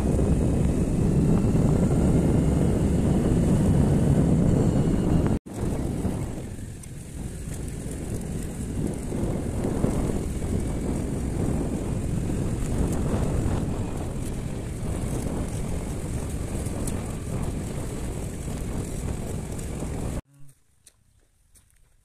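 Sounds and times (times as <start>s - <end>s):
steady low rumble: 0.0s - 20.2s
wind buffeting microphone: 0.0s - 20.2s.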